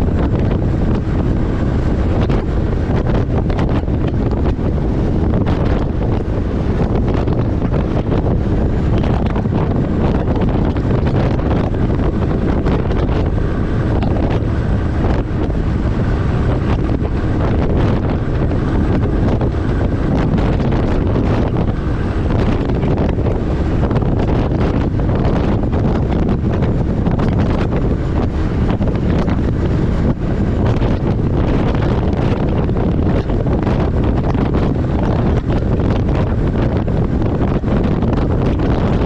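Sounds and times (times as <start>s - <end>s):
truck road rumble: 0.0s - 39.0s
wind buffeting microphone: 0.0s - 39.0s.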